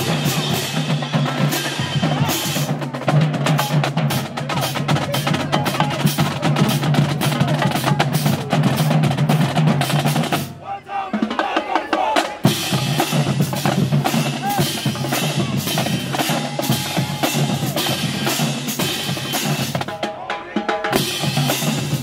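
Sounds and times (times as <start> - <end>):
bass drums: 0.0 - 10.6, 12.3 - 22.0
crowd voices: 0.0 - 22.0.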